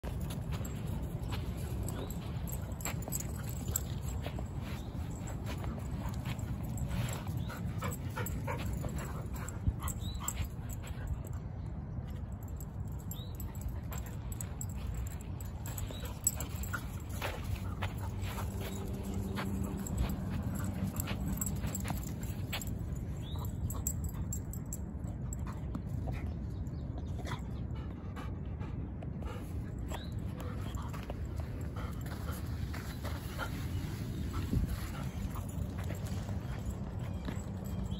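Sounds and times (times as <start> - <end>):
light clicks and scuffs: 0.0 - 11.4, 12.0 - 27.5, 29.0 - 37.9.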